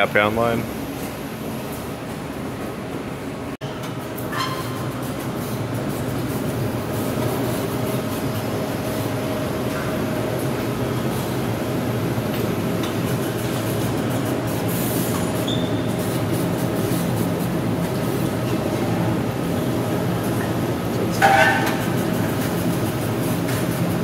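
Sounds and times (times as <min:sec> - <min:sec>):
factory machinery hum: 0:00.0 - 0:24.0.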